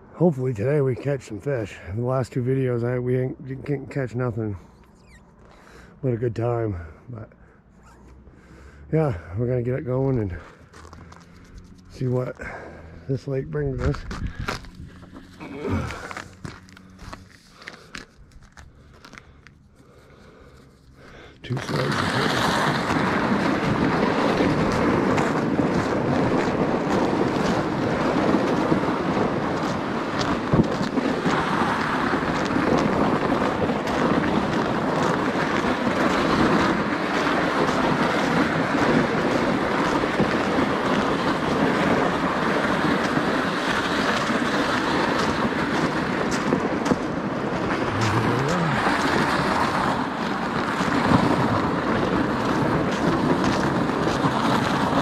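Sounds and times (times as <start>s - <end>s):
sled scraping over snow and ice: 8.9s - 55.0s.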